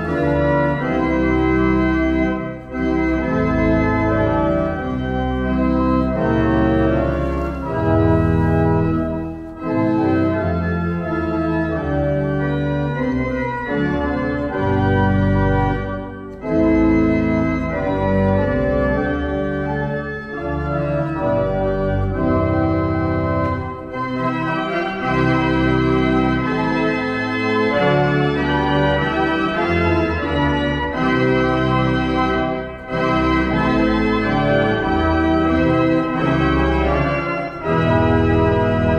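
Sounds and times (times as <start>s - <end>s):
pipe organ playing chords: 0.0s - 38.9s.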